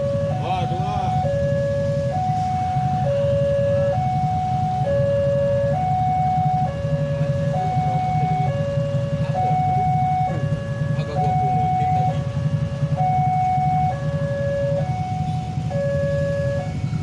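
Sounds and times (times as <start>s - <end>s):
level crossing two-tone alarm: 0.0s - 17.0s
steady low rumble: 0.0s - 17.0s.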